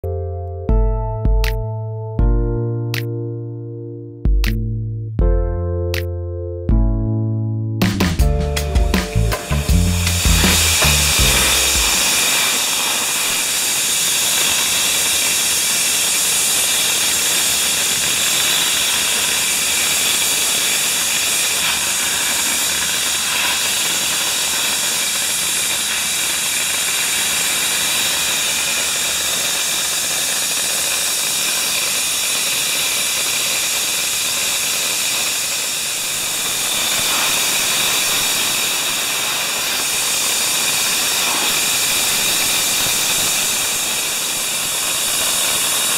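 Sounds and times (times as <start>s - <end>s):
dry-ice blasting gun hissing: 8.6s - 45.9s.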